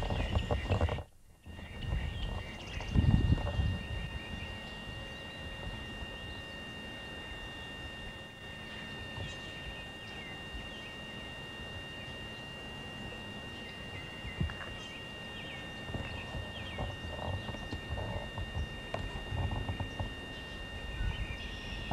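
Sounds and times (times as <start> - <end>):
birds chirping: 0.0 - 7.8, 8.4 - 21.9
steady high-pitched tone: 0.0 - 21.9.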